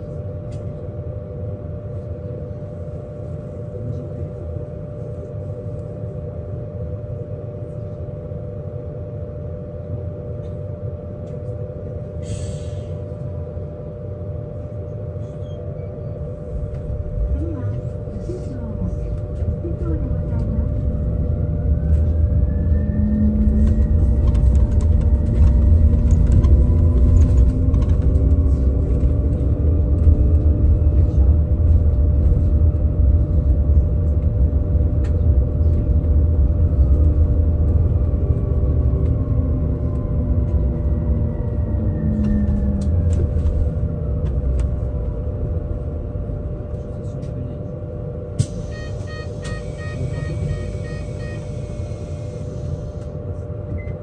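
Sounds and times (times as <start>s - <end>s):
electric bus motor whine: 0.0s - 54.0s
low road rumble: 0.0s - 54.0s.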